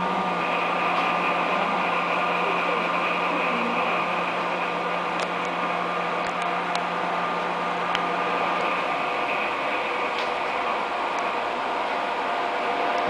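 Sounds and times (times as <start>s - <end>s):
low hum: 0.0s - 13.0s
train cabin hum and hiss: 0.0s - 13.0s.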